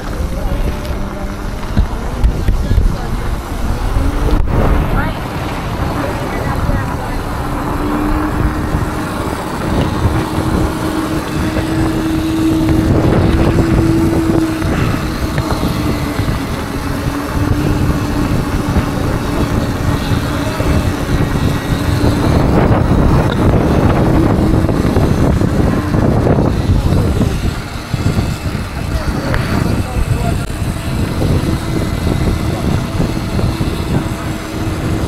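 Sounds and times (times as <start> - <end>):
electric motor whine: 0.0 - 35.0
wind buffeting microphone: 0.0 - 35.0.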